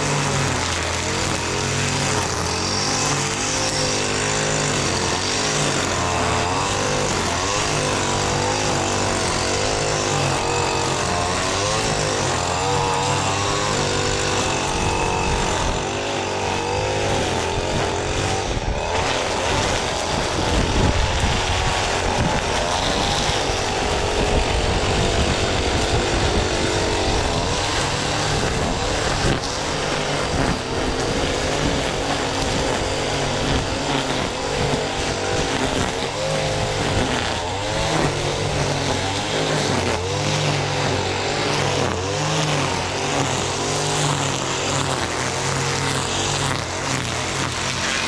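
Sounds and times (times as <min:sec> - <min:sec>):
string trimmer running and cutting: 0:00.0 - 0:48.0.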